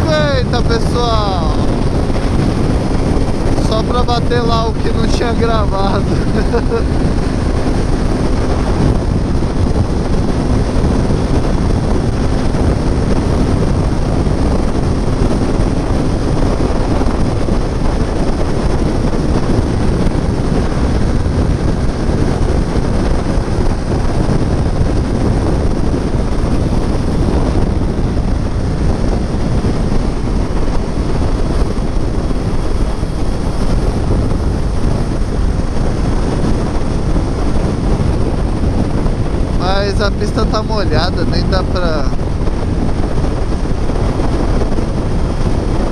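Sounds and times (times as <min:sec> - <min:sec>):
heavy wind rush on microphone: 0:00.0 - 0:45.9
motorcycle engine drone: 0:00.0 - 0:45.9.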